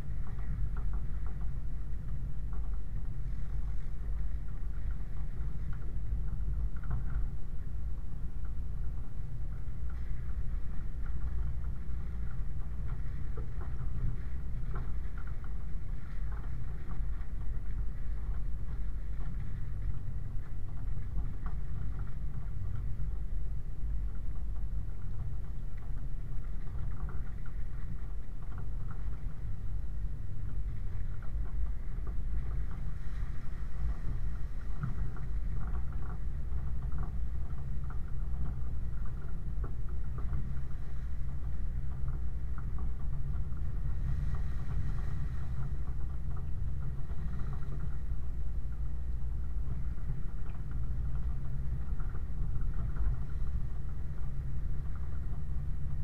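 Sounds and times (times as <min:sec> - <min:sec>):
low engine drone: 0:00.0 - 0:56.0.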